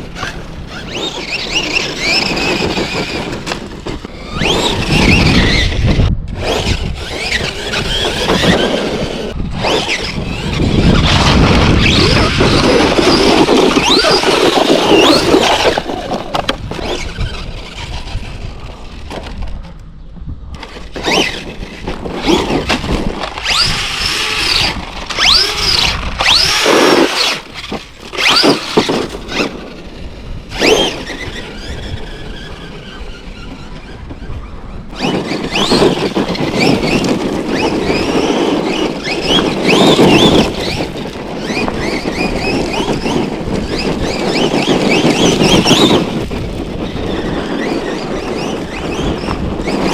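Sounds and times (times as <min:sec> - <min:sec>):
electric motor whining: 0:00.0 - 0:19.2, 0:20.6 - 0:49.9
toy truck running over ground: 0:00.0 - 0:19.9, 0:20.5 - 0:49.9.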